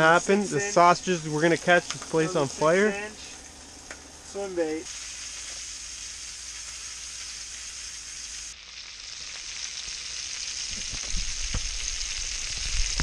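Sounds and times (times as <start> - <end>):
sausages sizzling in a pan: 0.0 - 13.0.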